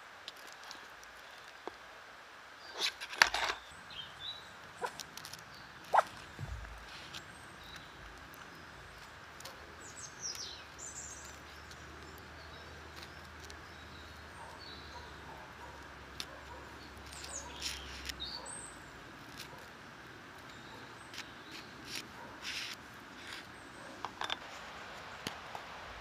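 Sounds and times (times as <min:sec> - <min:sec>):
steady woodland hiss: 0:00.0 - 0:26.0.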